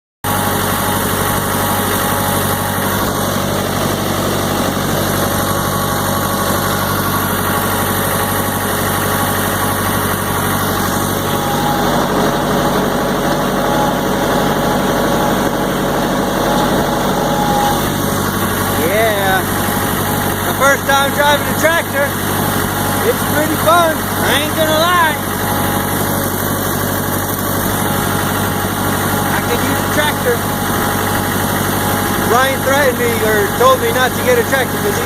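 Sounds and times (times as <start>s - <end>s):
tractor engine droning: 0.2s - 35.0s.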